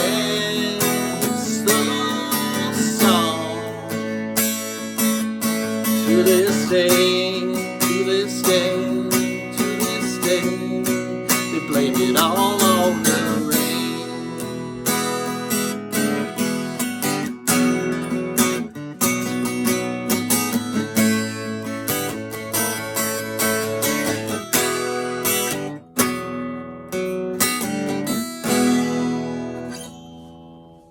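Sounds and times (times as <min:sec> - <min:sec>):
acoustic guitar strumming: 0:00.0 - 0:30.9.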